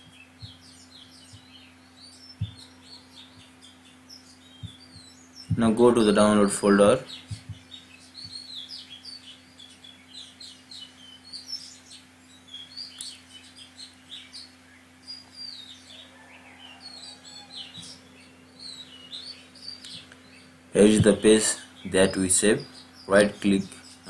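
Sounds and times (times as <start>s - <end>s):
faint steady hum: 0.0s - 24.0s
small birds chirping and twittering: 0.0s - 24.0s.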